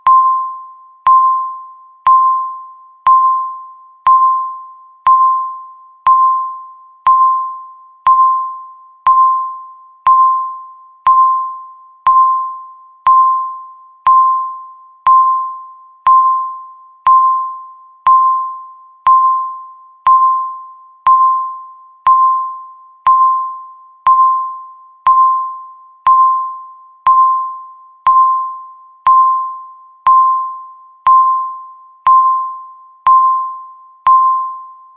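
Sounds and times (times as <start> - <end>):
timer beeping: 0.0 - 34.9.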